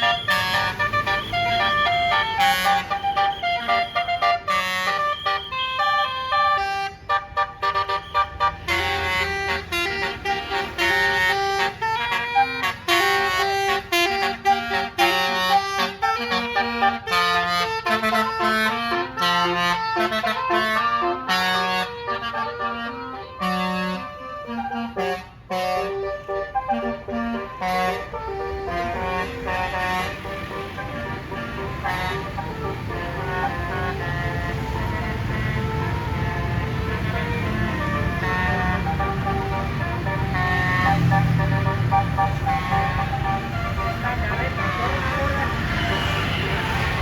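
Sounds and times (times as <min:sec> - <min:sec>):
bus air horn melody: 0:00.0 - 0:47.0.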